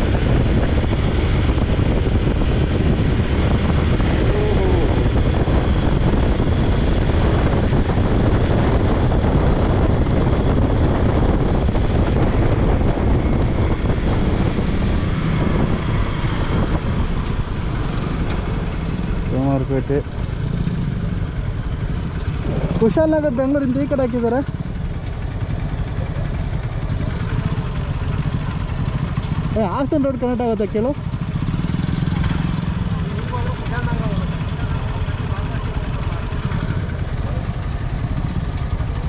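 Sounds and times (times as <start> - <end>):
motorcycle engine running: 0.0 - 39.0
wind rushing over microphone: 0.0 - 39.0.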